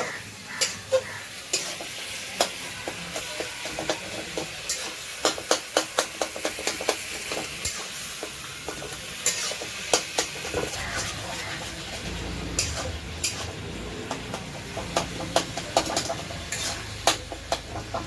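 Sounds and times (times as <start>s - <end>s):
chicken sizzling in a pan: 0.0s - 18.0s
utensil scraping a pan: 0.0s - 18.0s.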